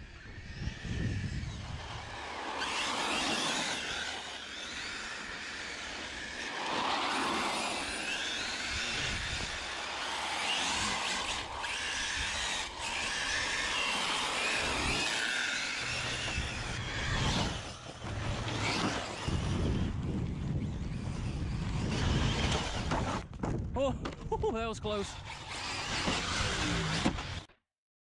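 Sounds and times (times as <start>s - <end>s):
electric motor whining: 0.0s - 23.3s, 25.1s - 27.5s
tyre noise on asphalt: 1.2s - 24.4s.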